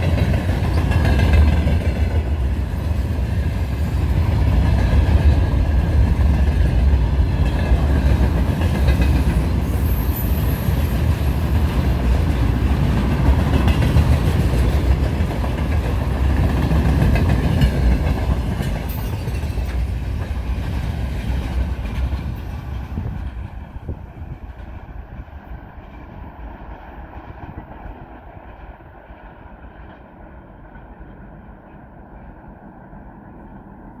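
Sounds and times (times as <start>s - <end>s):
freight train rumbling past: 0.0s - 34.0s.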